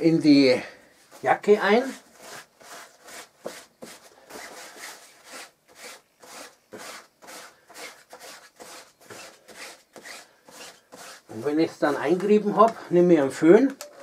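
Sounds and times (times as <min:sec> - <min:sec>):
wax block rubbing on fabric: 0:01.1 - 0:12.5.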